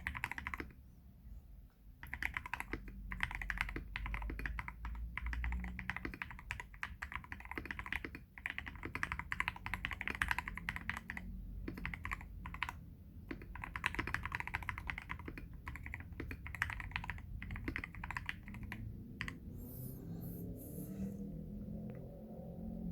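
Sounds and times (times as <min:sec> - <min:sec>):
mechanical keyboard typing: 0:00.0 - 0:00.8, 0:02.0 - 0:19.9.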